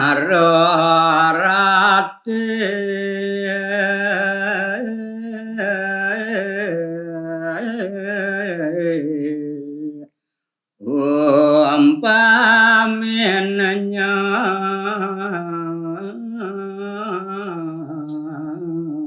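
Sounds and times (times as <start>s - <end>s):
man singing slow melody: 0.0s - 10.2s, 10.8s - 19.0s.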